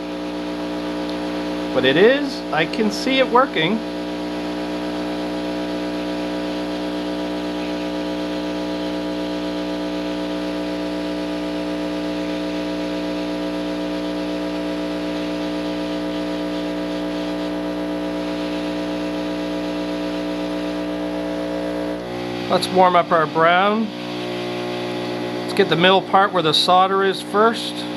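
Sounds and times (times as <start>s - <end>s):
heat gun fan humming: 0.0s - 27.9s.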